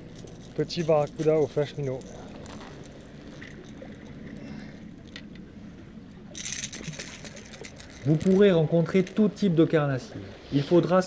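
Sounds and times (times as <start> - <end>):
wind and sea wash: 0.0 - 11.0.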